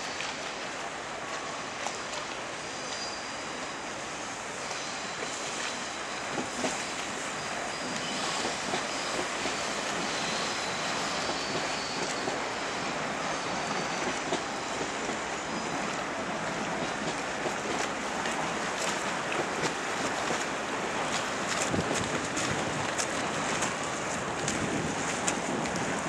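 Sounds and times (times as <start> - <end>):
water lapping: 3.4 - 26.0.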